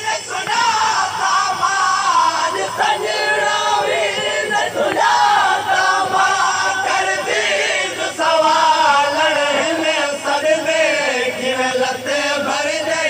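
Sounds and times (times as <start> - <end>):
crowd of men chanting: 0.0 - 13.0.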